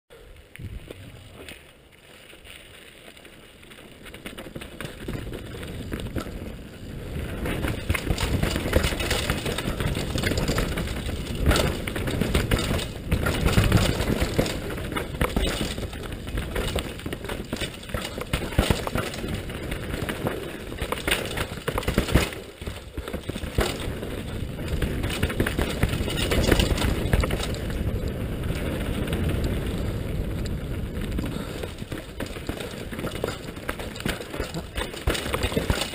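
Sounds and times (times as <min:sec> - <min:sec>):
bike rattling over bumps: 0:00.7 - 0:35.9.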